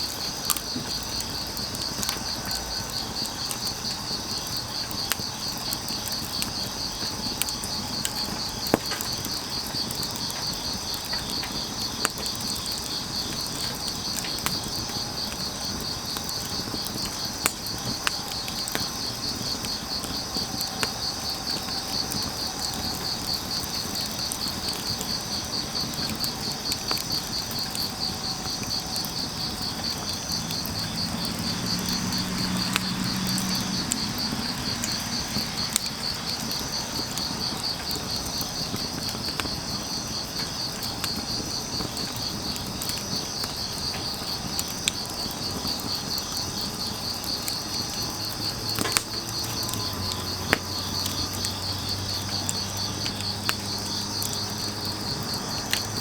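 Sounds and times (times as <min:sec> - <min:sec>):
grass insects chirping: 0:00.0 - 0:56.0
soft rain patter: 0:00.0 - 0:56.0
wood fire crackling and popping: 0:00.0 - 0:56.0.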